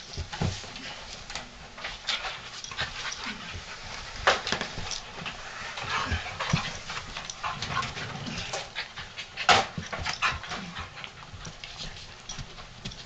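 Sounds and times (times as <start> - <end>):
dogs panting: 0.0 - 13.0
dogs scuffling: 0.0 - 13.0.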